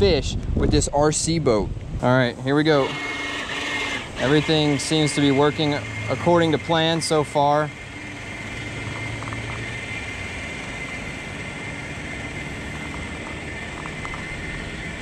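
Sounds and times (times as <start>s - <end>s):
toy boat motor whine: 2.6s - 15.0s.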